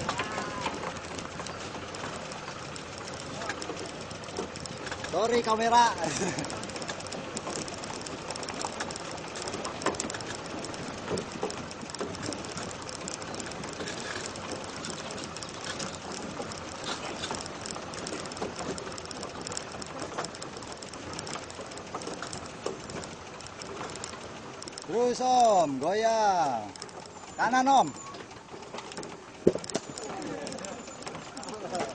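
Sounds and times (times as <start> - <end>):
knocks and clatters over bumps: 0.0 - 31.9
off-road vehicle running and rattling: 0.0 - 31.9.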